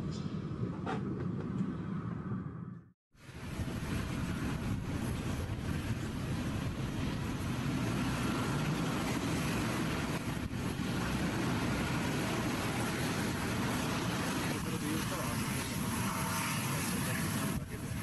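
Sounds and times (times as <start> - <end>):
jet aircraft roar: 0.0 - 18.0.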